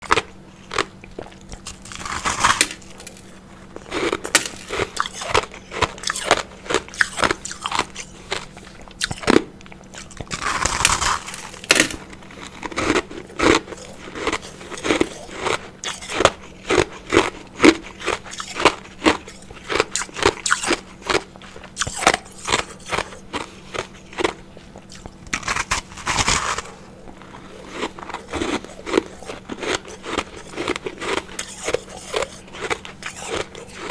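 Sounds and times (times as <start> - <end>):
person crunching ice: 1.6 - 9.4, 10.0 - 21.2, 21.8 - 33.9.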